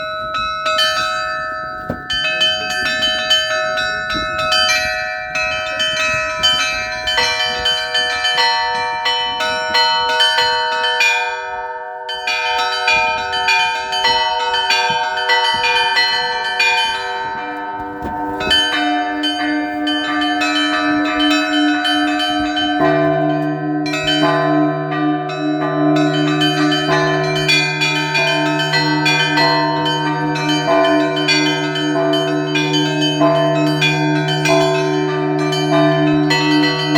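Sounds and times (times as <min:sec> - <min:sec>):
deep church bell: 0:00.0 - 0:36.9
large low bell humming: 0:00.0 - 0:36.9
middle church bells: 0:00.0 - 0:36.9
small high church bells: 0:00.0 - 0:36.9.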